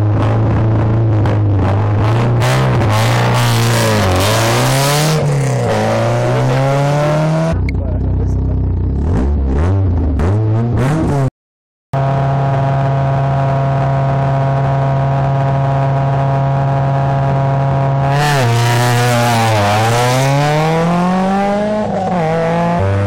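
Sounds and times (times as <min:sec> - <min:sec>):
rally car engine revving: 0:00.0 - 0:11.3, 0:12.0 - 0:23.0.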